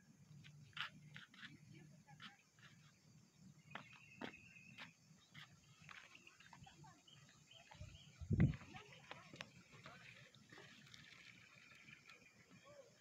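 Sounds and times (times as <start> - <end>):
faint outdoor ambience: 0.0 - 13.0
faint bird chirps: 0.7 - 13.0.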